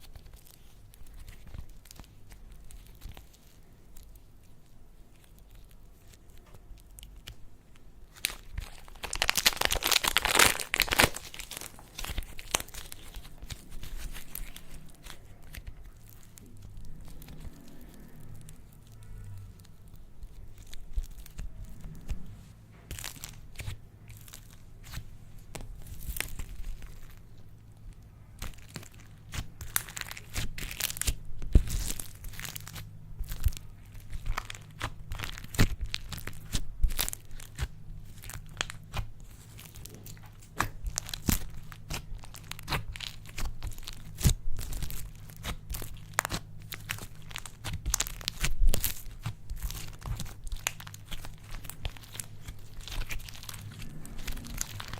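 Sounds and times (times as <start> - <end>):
slime squishing and crackling: 0.0 - 54.9.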